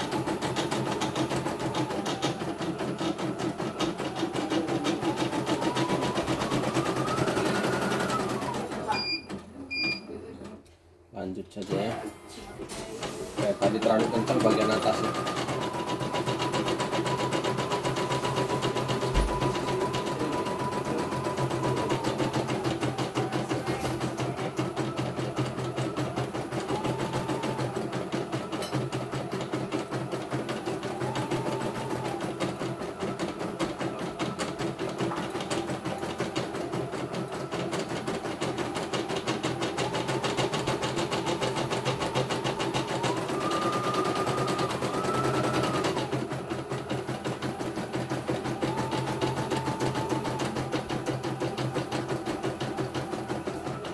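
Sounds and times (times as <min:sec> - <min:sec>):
embroidery machine stitching: 0:00.0 - 0:10.6, 0:11.6 - 0:53.9.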